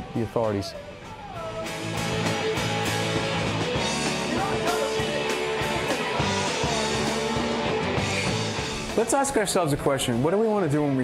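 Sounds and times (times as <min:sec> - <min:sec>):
rock band playing: 0:01.3 - 0:11.0.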